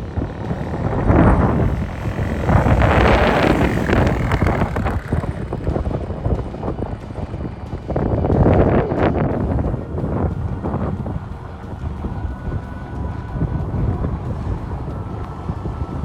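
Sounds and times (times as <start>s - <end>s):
small motorbike engine: 0.0s - 16.0s
wind buffeting microphone: 0.0s - 16.0s.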